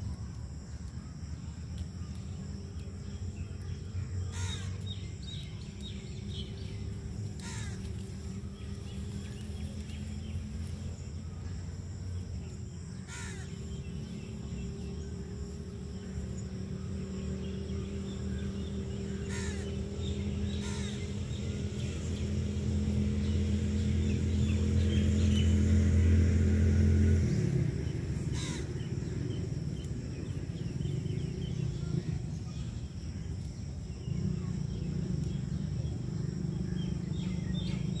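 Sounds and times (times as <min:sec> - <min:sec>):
faint outdoor background noise: 0:00.0 - 0:38.0
low engine-like hum: 0:00.0 - 0:38.0.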